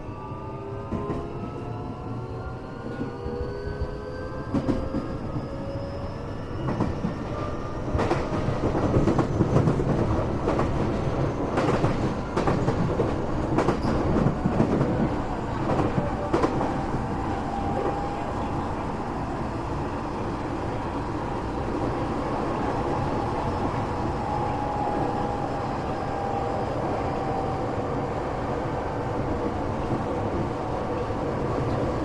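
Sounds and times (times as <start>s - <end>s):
train wheels rolling on rails: 0.7s - 32.0s.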